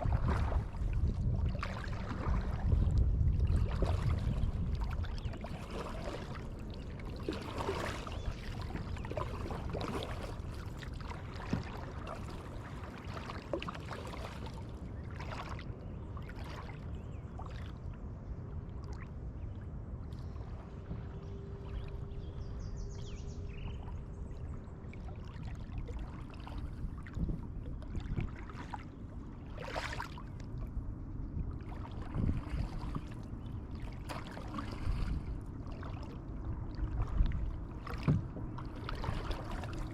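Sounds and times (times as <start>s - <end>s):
kayak paddle strokes in water: 0.0s - 16.8s, 20.5s - 39.9s
water splashing and trickling: 0.0s - 22.7s, 23.3s - 39.9s.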